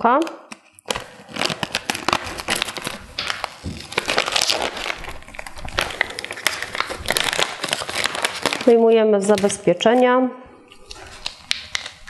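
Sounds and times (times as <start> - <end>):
plastic wrapper crinkling: 0.0 - 10.0, 10.6 - 12.0.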